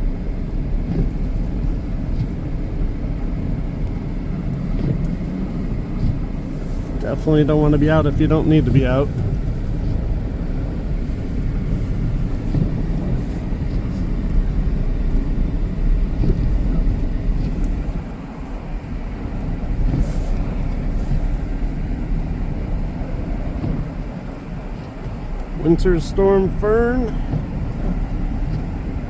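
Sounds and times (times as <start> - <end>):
road and engine rumble in car: 0.0 - 29.0.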